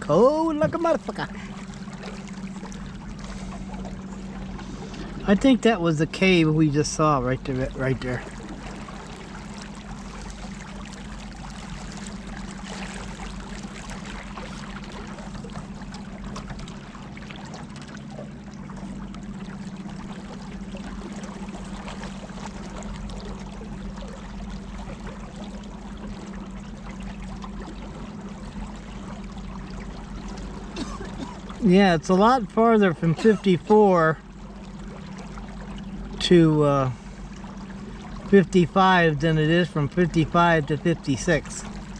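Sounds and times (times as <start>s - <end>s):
boat motor humming: 0.0s - 41.9s
water rushing past hull: 0.0s - 41.9s.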